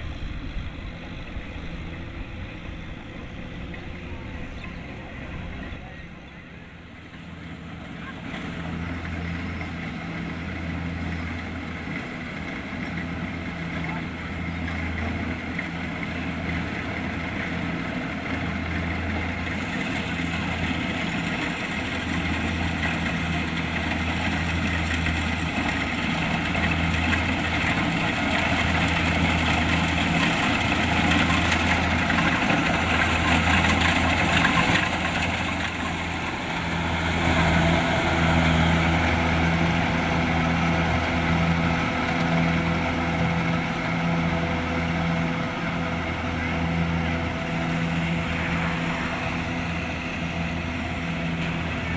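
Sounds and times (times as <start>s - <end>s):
combine harvester engine droning: 0.0s - 51.9s
harvesting machinery clatter and whir: 0.0s - 51.9s.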